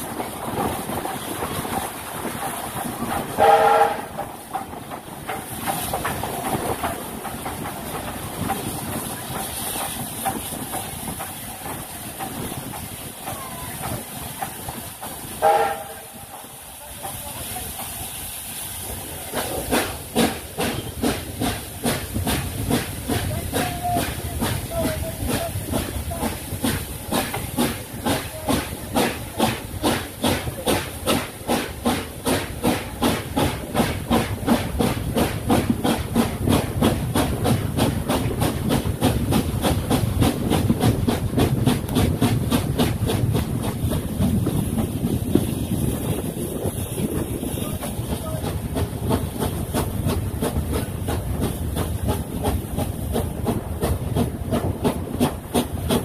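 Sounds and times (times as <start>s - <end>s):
coaches rumbling on rails: 0.0s - 56.0s
steam locomotive exhaust chuffing: 0.0s - 56.0s.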